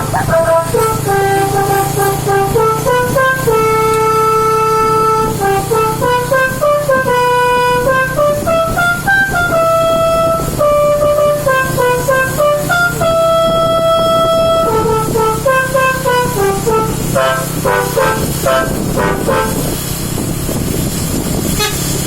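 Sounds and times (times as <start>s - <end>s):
multi-tone air horn melody: 0.0s - 22.0s.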